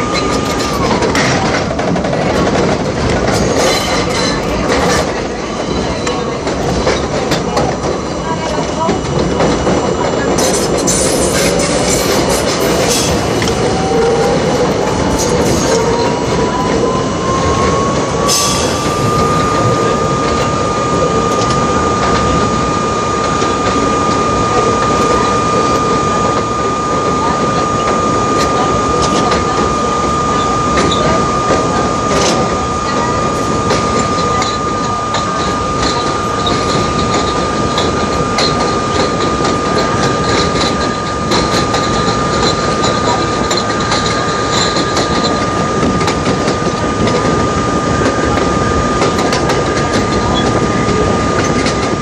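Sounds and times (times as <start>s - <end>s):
subway motor whine: 0.0s - 52.0s.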